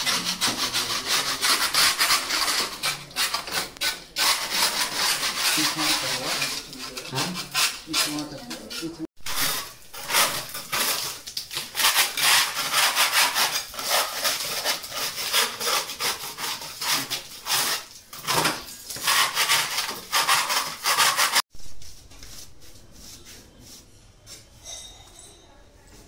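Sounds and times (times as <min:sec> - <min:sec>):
hand scraper rasping on plaster: 0:00.0 - 0:21.4.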